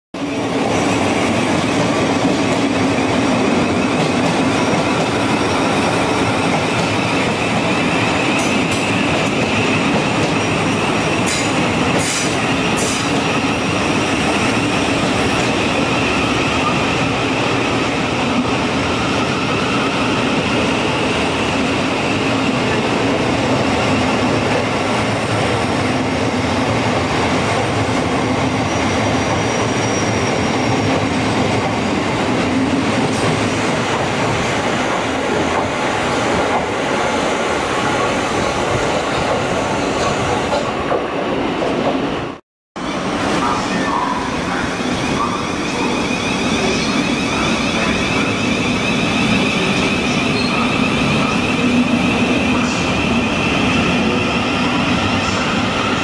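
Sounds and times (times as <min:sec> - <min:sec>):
wheels rumbling on rail: 0:00.4 - 0:56.0.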